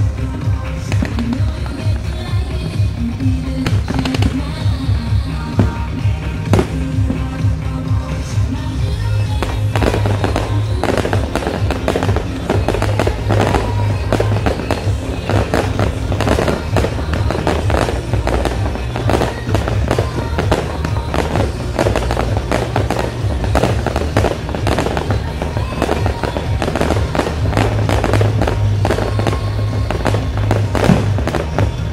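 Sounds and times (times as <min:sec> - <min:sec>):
fireworks bangs and crackles: 0:00.0 - 0:31.9
music playing: 0:00.0 - 0:31.9.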